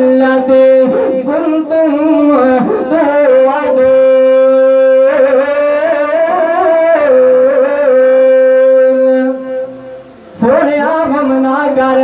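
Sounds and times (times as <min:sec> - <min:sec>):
man chanting through microphone: 0:00.0 - 0:12.0.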